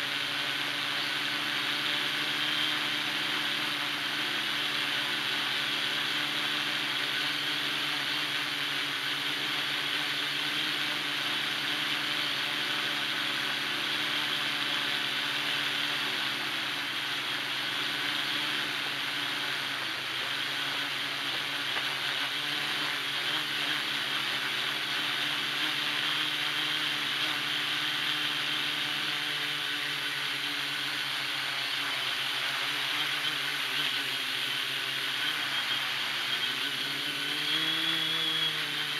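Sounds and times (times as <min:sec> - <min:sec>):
drone motors and propellers whirring: 0:00.0 - 0:38.9.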